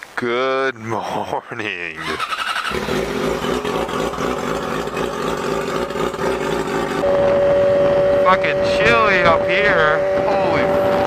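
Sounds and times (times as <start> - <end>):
motorcycle engine running loud: 2.1 - 11.0.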